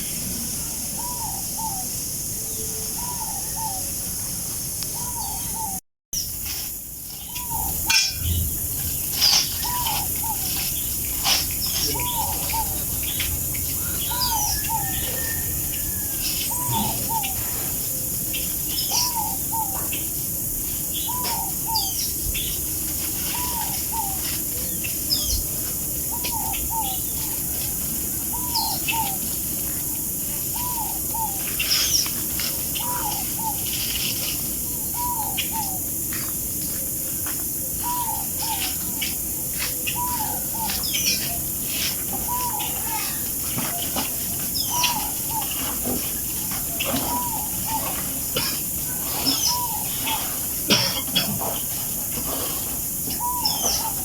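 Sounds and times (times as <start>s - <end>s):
birds chirping in background: 0.0s - 54.0s.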